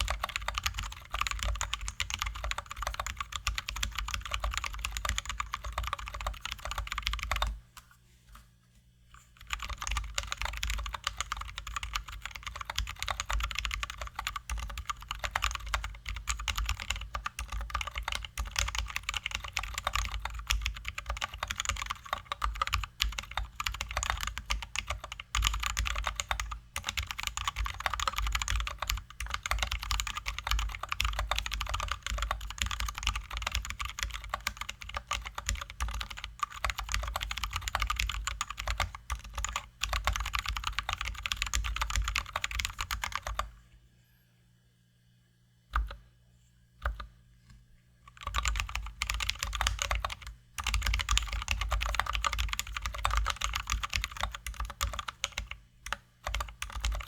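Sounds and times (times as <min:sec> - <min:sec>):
mechanical keyboard typing: 0:00.0 - 0:07.6, 0:09.4 - 0:43.5, 0:46.8 - 0:47.1, 0:48.1 - 0:57.0.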